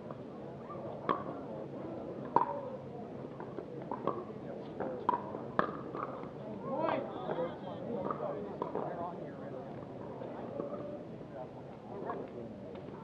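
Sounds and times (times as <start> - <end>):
murmur of spectators: 0.0 - 13.0.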